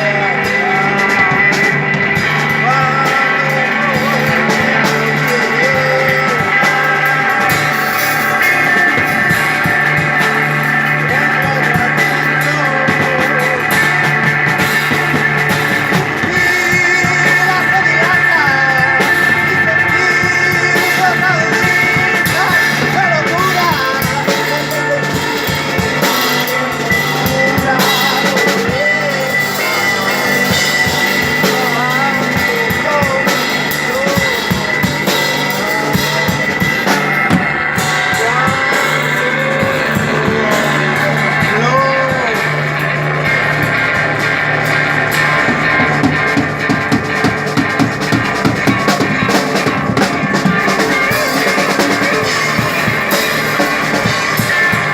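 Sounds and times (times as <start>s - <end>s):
drum kit beat: 0.0s - 54.9s
electric guitar bending notes: 0.0s - 54.9s.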